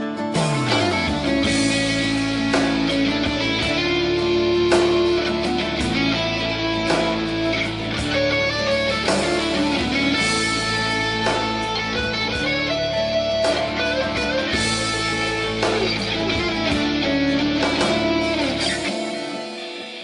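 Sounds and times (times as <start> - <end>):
guitar ringtone with steady beat: 0.0 - 20.0.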